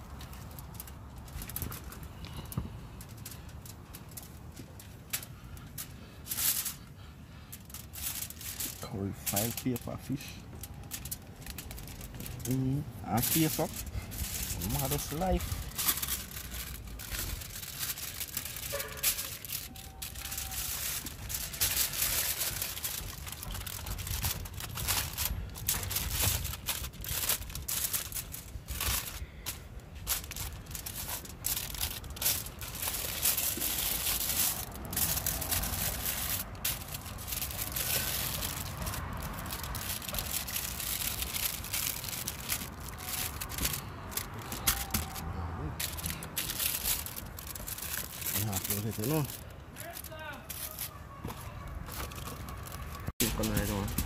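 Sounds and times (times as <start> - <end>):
aluminium foil crinkling: 0.0 - 54.0.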